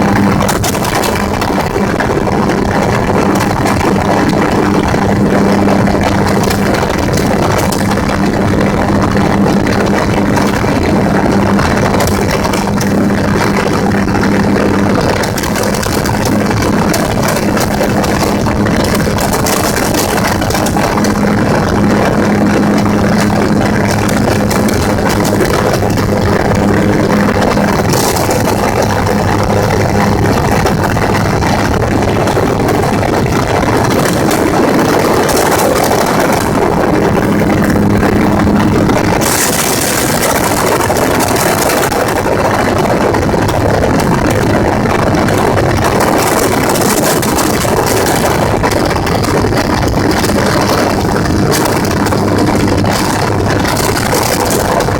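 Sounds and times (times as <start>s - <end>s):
aircraft engine and propeller: 0.0s - 54.9s.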